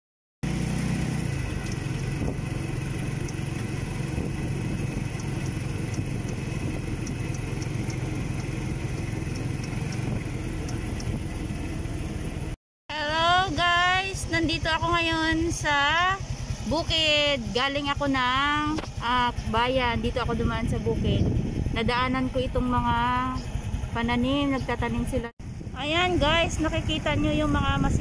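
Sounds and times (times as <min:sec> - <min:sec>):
motorcycle engine idling: 0:00.4 - 0:28.0.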